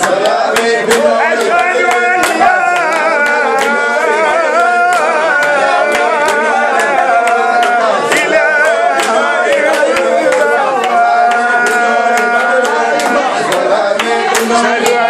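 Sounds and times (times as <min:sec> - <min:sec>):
man singing melismatic chant: 0:00.0 - 0:15.0.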